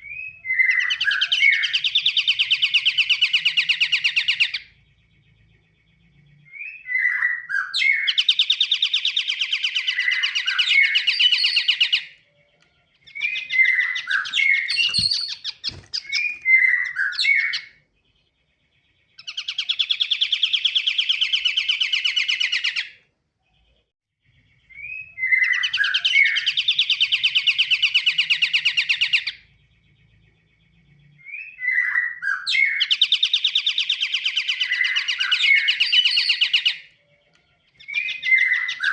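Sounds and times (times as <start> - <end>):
bird singing a fast trill: 0.0 - 38.9.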